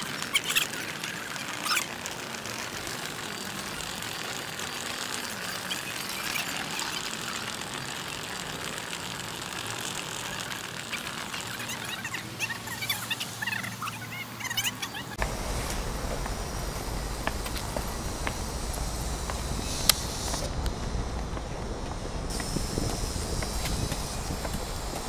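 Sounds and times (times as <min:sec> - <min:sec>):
suitcase wheels rolling on pavement: 0:00.0 - 0:25.0.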